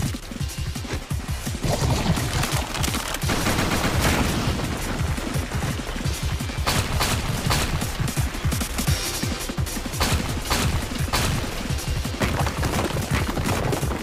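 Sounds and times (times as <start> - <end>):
rapid volley of impacts: 0.0 - 14.0.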